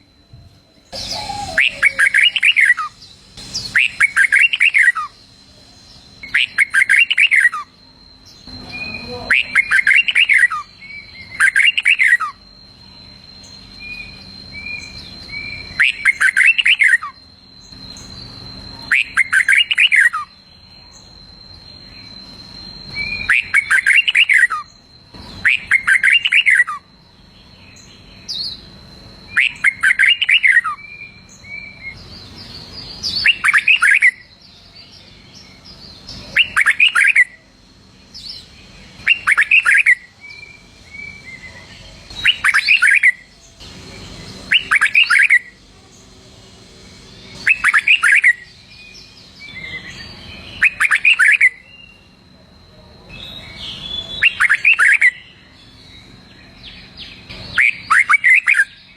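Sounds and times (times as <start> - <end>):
bulbul singing: 0.0 - 58.9.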